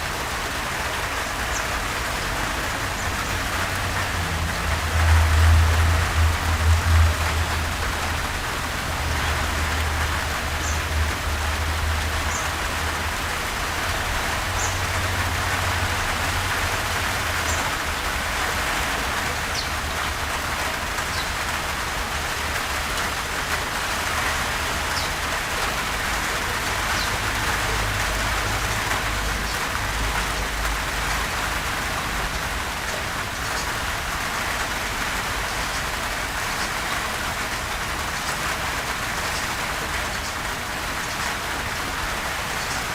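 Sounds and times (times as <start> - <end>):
gentle rain hiss: 0.0 - 42.9
rain drop ticks: 0.3 - 42.9.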